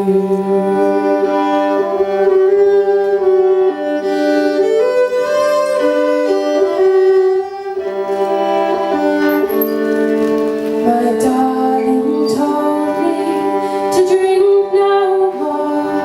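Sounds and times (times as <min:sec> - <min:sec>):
fiddle playing slow folk tune: 0:00.0 - 0:16.0.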